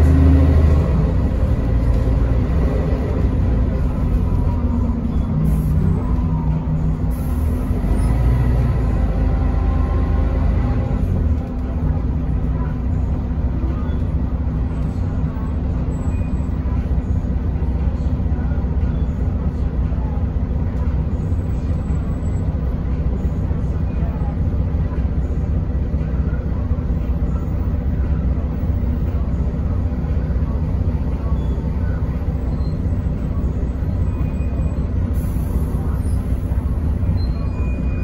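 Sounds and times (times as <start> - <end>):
bus engine drone: 0.0 - 38.0
road noise: 0.0 - 38.0.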